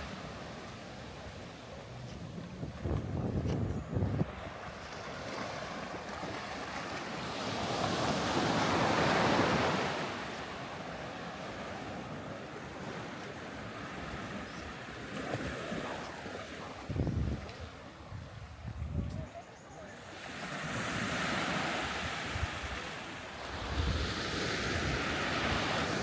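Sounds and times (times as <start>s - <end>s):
sea waves washing on a beach: 0.0s - 26.0s.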